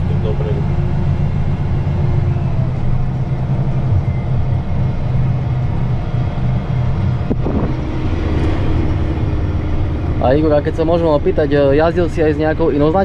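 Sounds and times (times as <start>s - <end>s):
tractor engine droning under load: 0.0s - 13.0s.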